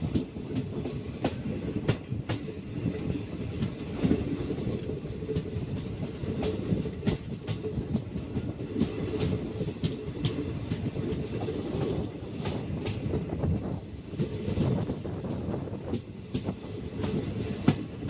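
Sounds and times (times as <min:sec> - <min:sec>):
rail joint clicks: 0:00.0 - 0:18.0
rumble of wheels on rail: 0:00.0 - 0:18.0.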